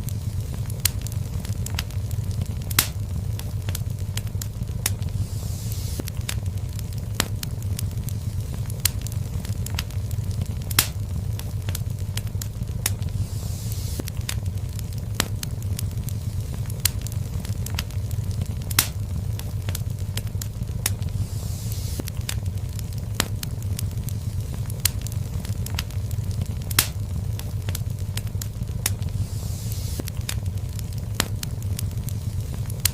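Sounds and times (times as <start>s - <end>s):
low rumble of flames: 0.0s - 32.9s
sharp pops of fire: 0.0s - 32.9s
soft hiss: 0.0s - 32.9s
wood fire crackling: 0.0s - 32.9s.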